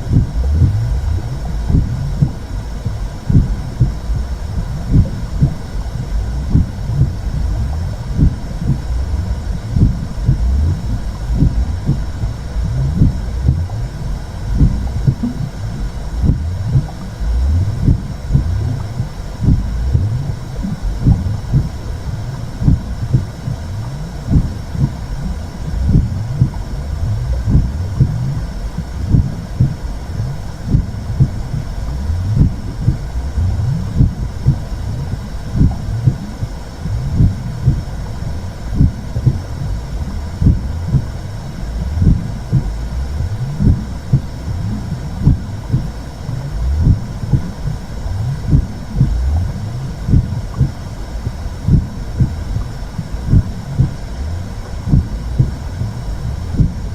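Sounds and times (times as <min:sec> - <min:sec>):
low whooshing rumble: 0:00.0 - 0:56.9
slow heartbeat: 0:00.0 - 0:56.9.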